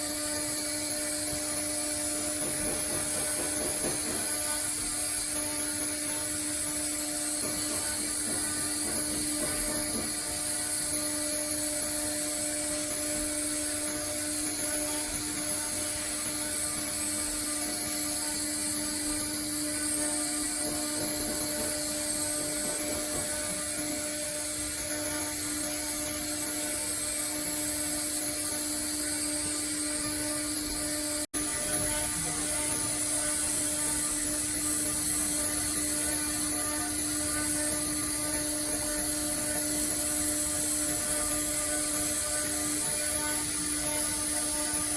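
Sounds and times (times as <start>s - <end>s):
router spindle whine: 0.0s - 44.9s.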